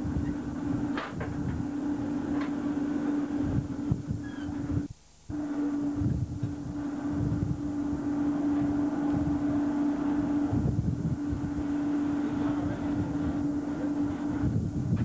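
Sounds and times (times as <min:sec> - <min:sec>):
wind buffeting microphone: 0:00.0 - 0:04.9, 0:05.8 - 0:15.0
ship machinery drone: 0:00.0 - 0:15.0.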